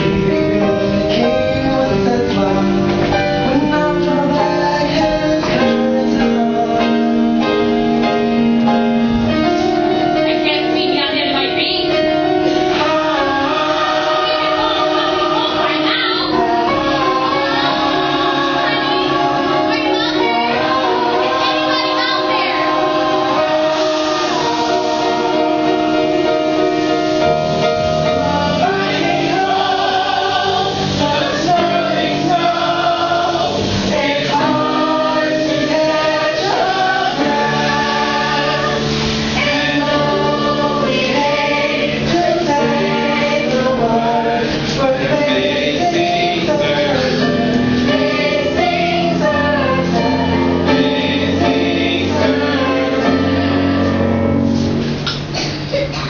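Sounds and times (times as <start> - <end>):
chorus of young voices singing: 0.0 - 55.5
instrumental accompaniment: 0.0 - 56.0.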